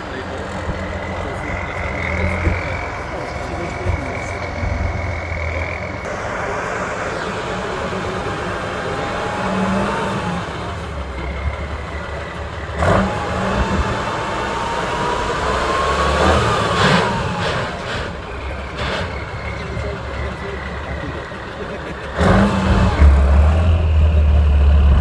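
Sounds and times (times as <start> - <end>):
engine whine: 0.0 - 25.0
truck engine revving: 0.0 - 25.0.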